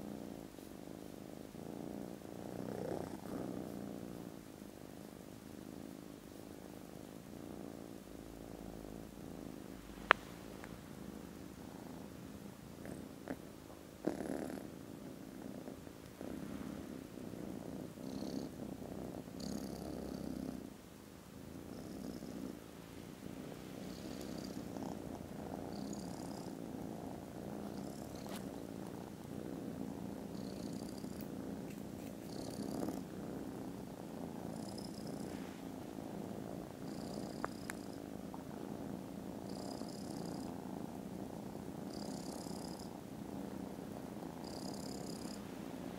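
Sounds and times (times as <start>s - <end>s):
kittens purring: 0.0s - 45.9s.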